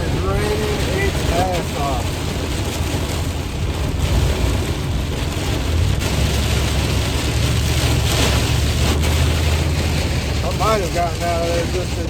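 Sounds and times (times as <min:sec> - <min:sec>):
engine and road noise: 0:00.0 - 0:12.0
heavy rain on vehicle: 0:00.0 - 0:12.0.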